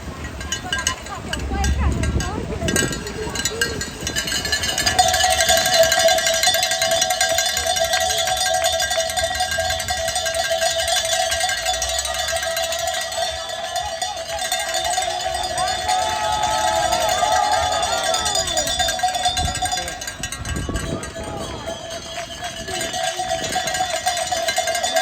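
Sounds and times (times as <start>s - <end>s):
cowbells clanging: 0.0s - 25.0s.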